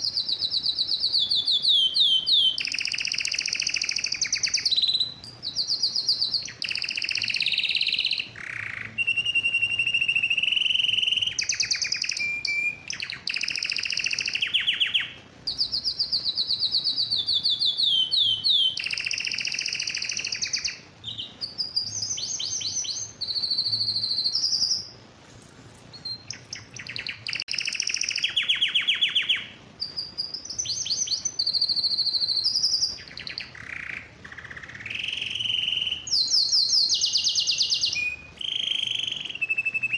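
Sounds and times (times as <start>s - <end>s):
canary singing trills: 0.0s - 25.1s, 25.9s - 39.9s.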